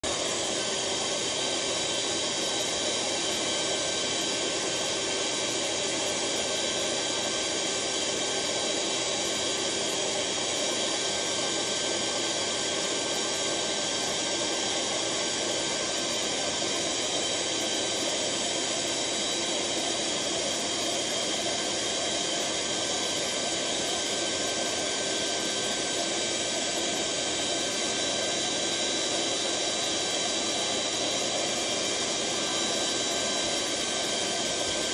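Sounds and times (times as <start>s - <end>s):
electric blower rushing whine: 0.0s - 34.9s.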